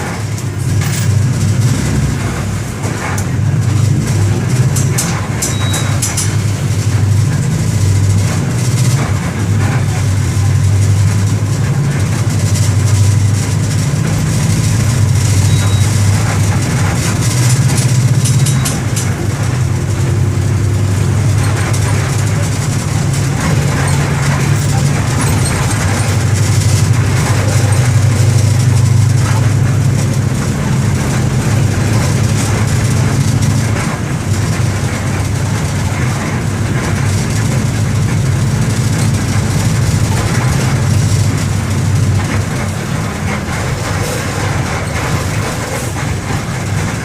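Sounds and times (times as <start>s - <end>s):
bus engine droning: 0.0s - 47.0s.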